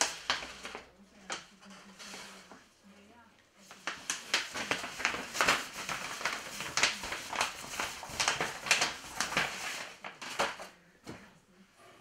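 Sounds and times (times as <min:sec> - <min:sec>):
paper sheets rustling: 0:00.0 - 0:02.8, 0:03.6 - 0:11.4.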